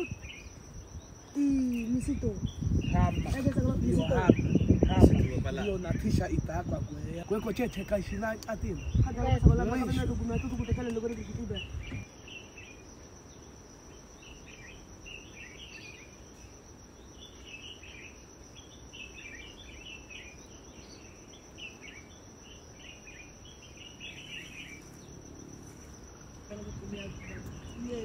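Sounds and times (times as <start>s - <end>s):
insect trill: 0.0s - 28.0s
small birds chirping: 0.0s - 28.0s.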